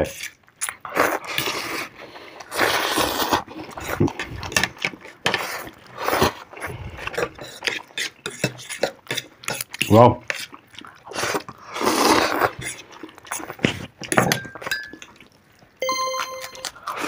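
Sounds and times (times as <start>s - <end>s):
slurping and chewing: 0.0s - 15.8s.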